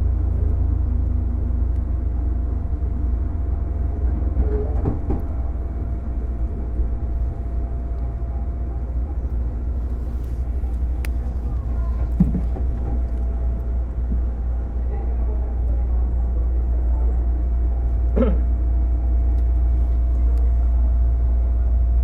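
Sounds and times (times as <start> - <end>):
train running low rumble: 0.0 - 22.0.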